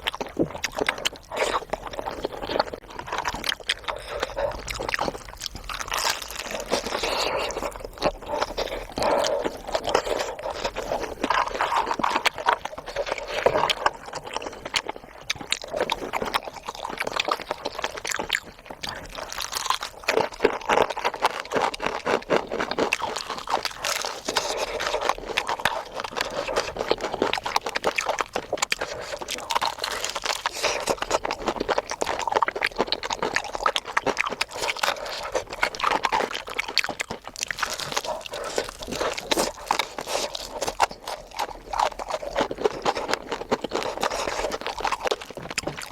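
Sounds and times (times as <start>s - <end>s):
crunching fried food: 0.0s - 45.9s
wet chewing: 0.0s - 45.9s.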